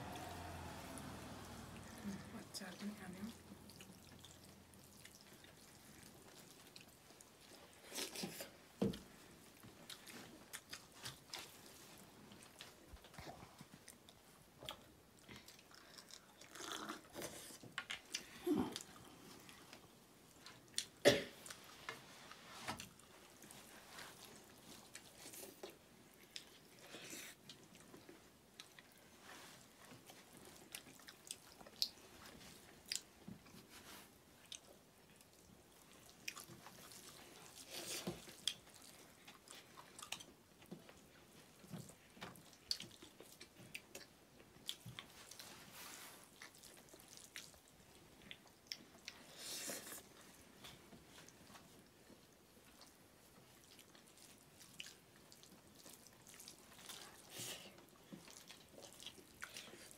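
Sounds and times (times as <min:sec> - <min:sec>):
chewing: 0:03.3 - 0:59.9.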